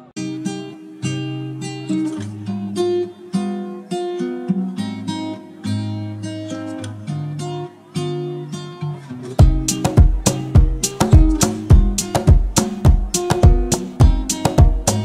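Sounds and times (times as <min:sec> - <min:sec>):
plucked acoustic guitar melody: 0:00.0 - 0:15.0.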